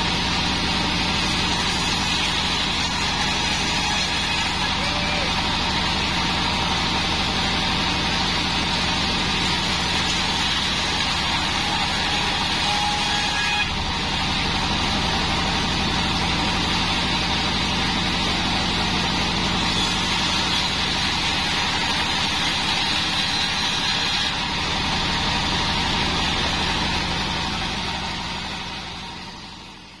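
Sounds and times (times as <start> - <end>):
bandsaw mill droning: 0.0 - 30.0.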